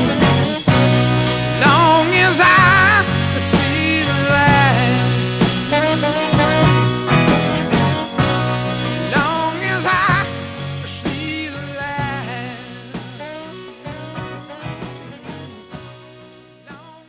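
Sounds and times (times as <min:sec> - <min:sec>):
band playing a wavering melody: 0:00.0 - 0:16.9.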